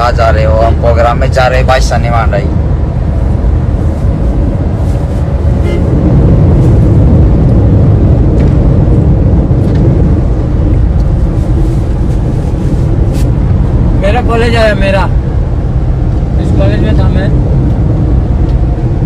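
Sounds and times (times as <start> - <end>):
road vehicle rumbling: 0.0 - 19.0.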